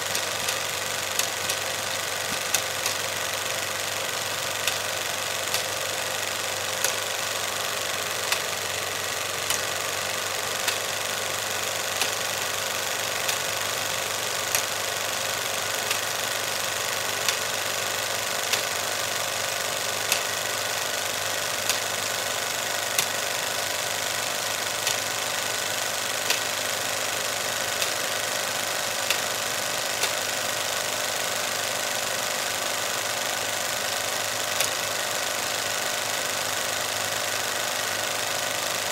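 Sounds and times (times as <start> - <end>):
film projector running: 0.0 - 38.9
sharp projector click: 0.0 - 38.9.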